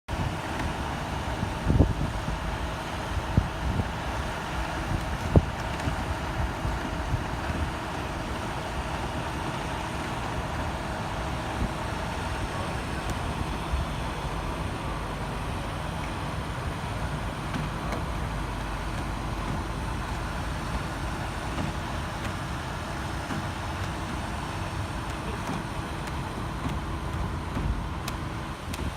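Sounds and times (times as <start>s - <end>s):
vehicle engine humming: 0.1s - 28.9s.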